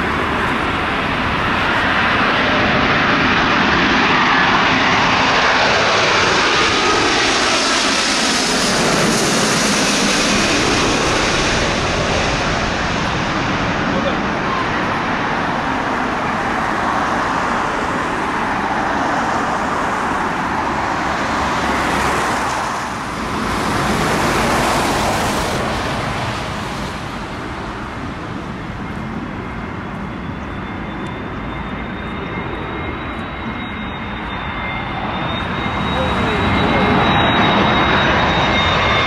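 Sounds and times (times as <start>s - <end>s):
jet airliner roar: 0.0s - 39.0s
jet engine whine: 0.0s - 39.0s
road traffic: 0.0s - 39.0s.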